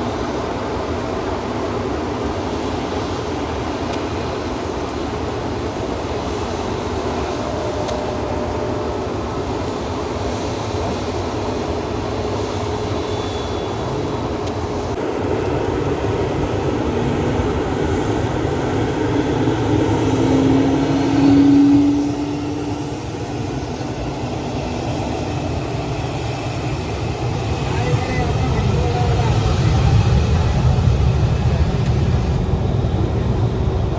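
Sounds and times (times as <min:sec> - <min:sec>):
jet airliner engine rumble: 0:00.0 - 0:33.9.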